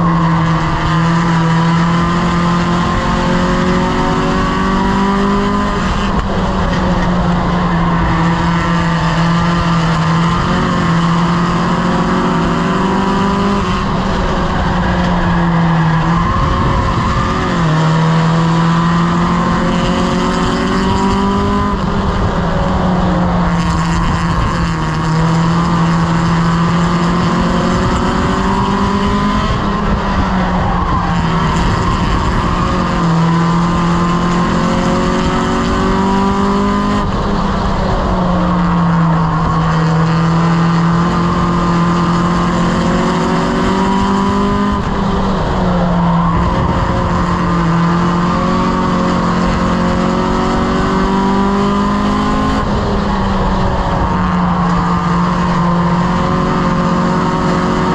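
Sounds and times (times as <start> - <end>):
race car engine revving: 0.0 - 57.9.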